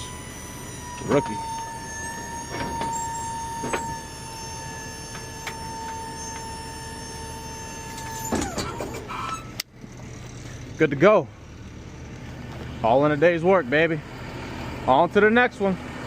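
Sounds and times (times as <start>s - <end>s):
hydraulic pump motor whining: 0.0s - 15.0s.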